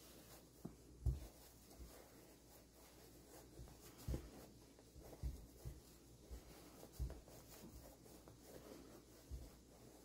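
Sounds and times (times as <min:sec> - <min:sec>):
cloth doll fabric rustle: 0:00.0 - 0:10.0.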